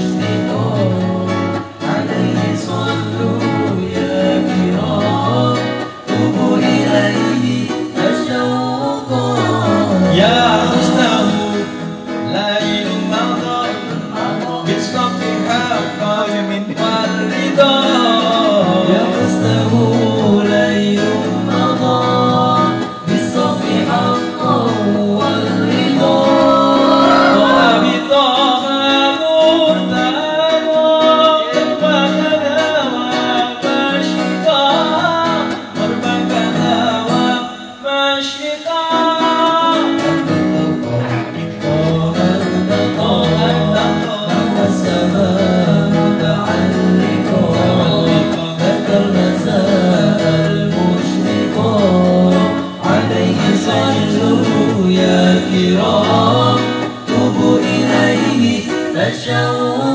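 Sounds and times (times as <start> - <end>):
acoustic guitar: 0.0 - 59.9
men singing devotional song: 0.0 - 59.9.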